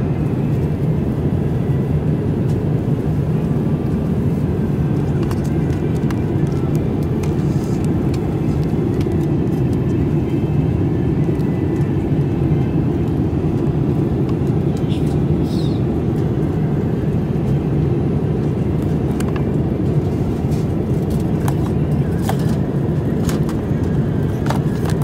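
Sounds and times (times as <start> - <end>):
airliner cabin rush: 0.0 - 25.0.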